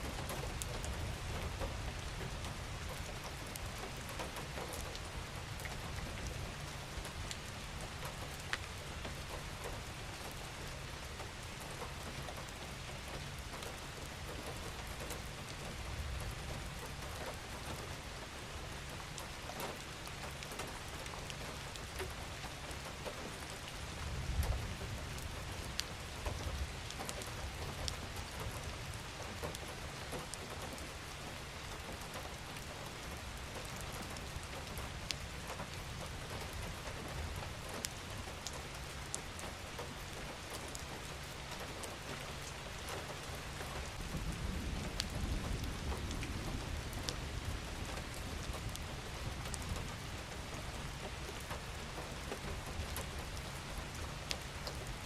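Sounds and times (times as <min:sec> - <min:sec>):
gentle rain falling: 0:00.0 - 0:55.0
raindrops ticking: 0:00.1 - 0:55.0.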